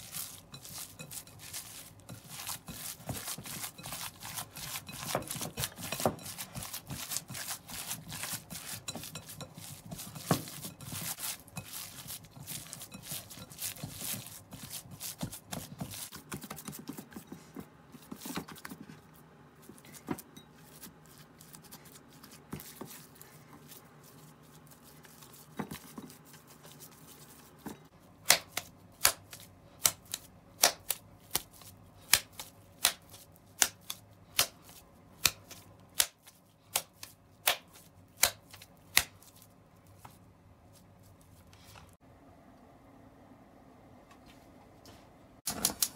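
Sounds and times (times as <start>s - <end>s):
hands kneading wet meat: 0.0s - 41.9s.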